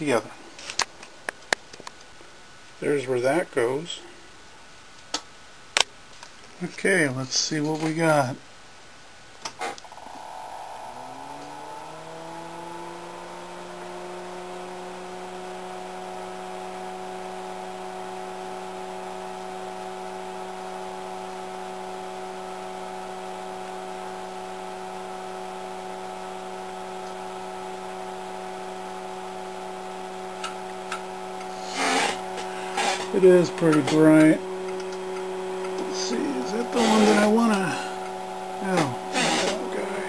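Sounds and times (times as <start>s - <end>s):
cooling fan whirring: 0.0s - 4.6s, 6.6s - 40.0s.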